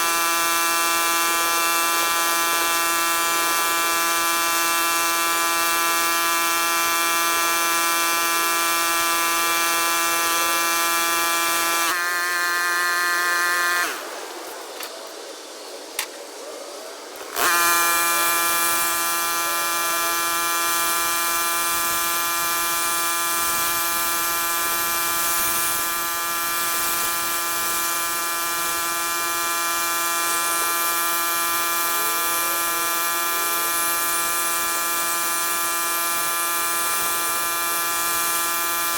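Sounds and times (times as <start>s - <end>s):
pressure washer whine: 0.0s - 14.9s, 17.2s - 38.9s.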